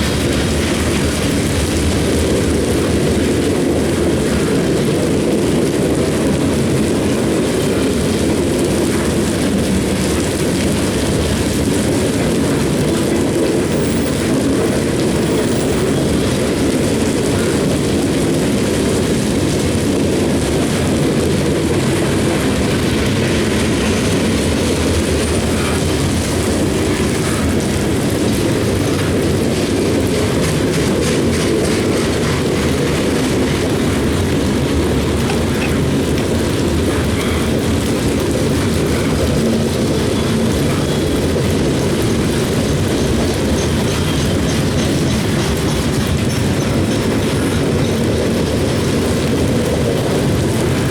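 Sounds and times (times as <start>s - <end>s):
train cars rumbling past: 0.0s - 50.9s
wheel clicks over rails: 0.0s - 50.9s.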